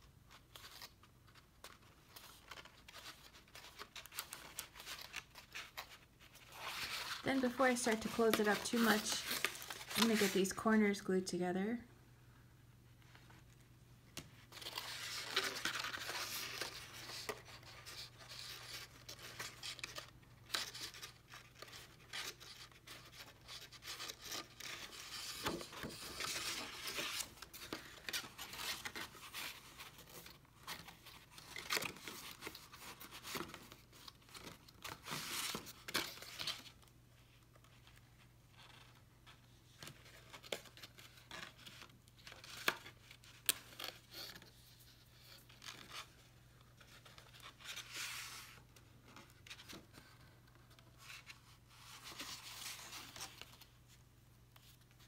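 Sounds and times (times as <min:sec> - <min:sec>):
paper rustling and crinkling: 0:00.3 - 0:10.7, 0:13.0 - 0:55.0.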